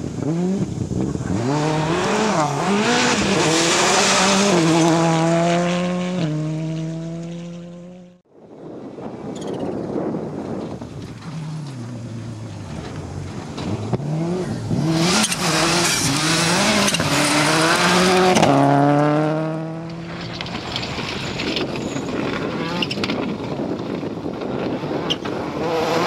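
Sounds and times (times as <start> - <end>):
rally car engine revving: 0.0 - 8.2, 11.1 - 26.0.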